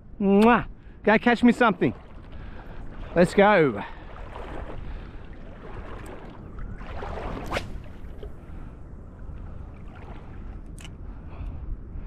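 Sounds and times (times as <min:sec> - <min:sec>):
wind rumble on microphone: 0:00.0 - 0:12.0
water lapping: 0:00.8 - 0:11.3.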